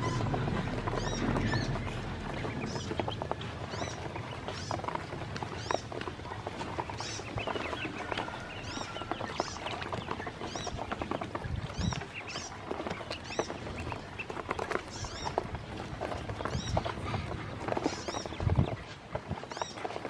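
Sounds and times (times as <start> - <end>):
bills pecking plastic tub: 0.0 - 20.0
ducklings peeping: 0.0 - 20.0.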